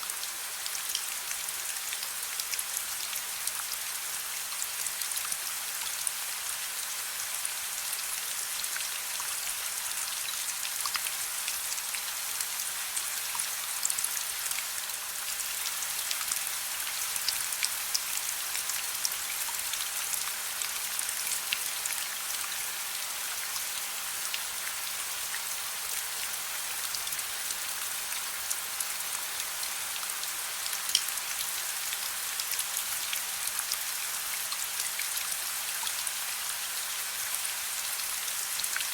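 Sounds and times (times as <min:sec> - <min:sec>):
gentle rain hiss: 0:00.0 - 0:38.9
raindrops ticking on a surface: 0:00.1 - 0:06.2, 0:08.6 - 0:22.7, 0:23.3 - 0:36.2.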